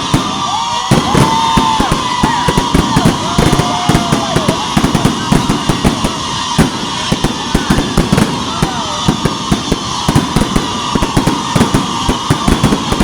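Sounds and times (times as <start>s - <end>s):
fireworks popping and crackling: 0.0s - 13.0s
fireworks whistling: 0.0s - 13.0s.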